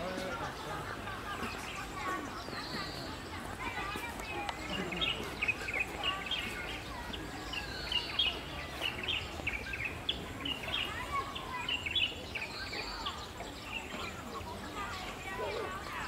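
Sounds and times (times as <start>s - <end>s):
faint murmur of voices: 0.0s - 16.0s
small birds chirping: 0.0s - 16.0s.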